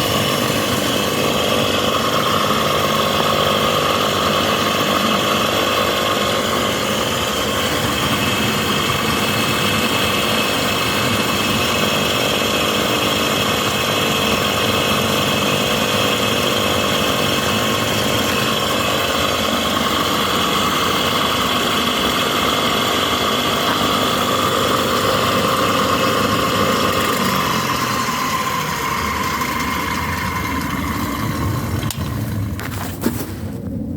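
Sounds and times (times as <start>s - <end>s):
electric motor whining: 0.0s - 32.7s.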